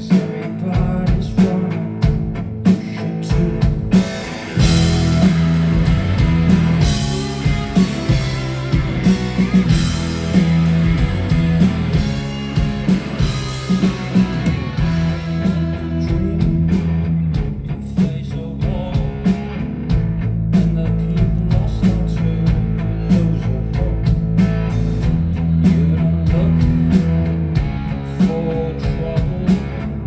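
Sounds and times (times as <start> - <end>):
drum-kit beat: 0.0 - 29.9
bass guitar: 0.0 - 30.0
electric guitars: 0.0 - 30.0.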